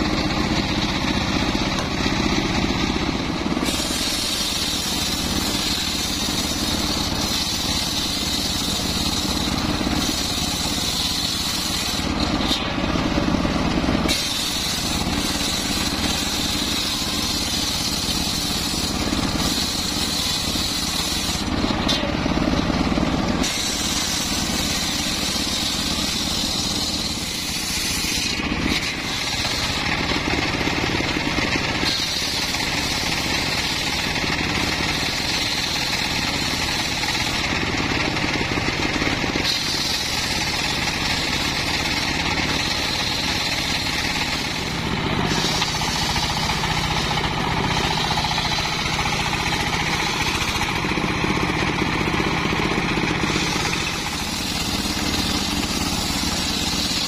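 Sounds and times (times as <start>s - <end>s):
circular saw cutting wood: 0.0s - 57.0s.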